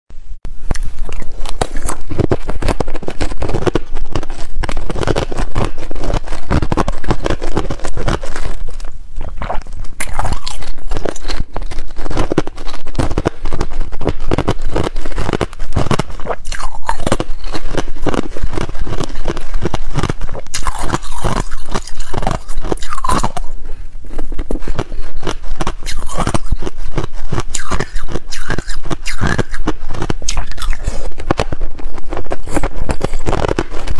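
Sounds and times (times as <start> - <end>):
ice crunching between teeth: 0.6 - 33.9.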